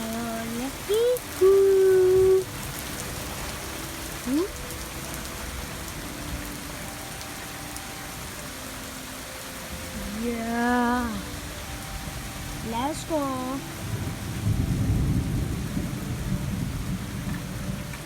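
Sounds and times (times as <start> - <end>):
rain on a roof: 0.0 - 18.0.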